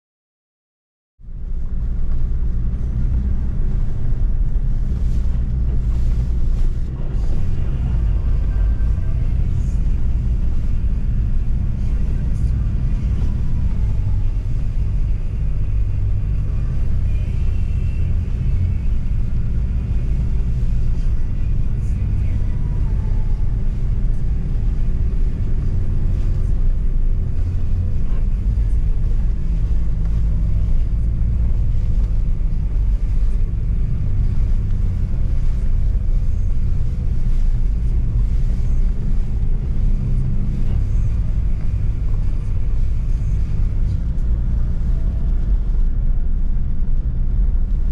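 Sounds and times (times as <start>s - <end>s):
engine and tyres rumbling: 1.2s - 47.9s.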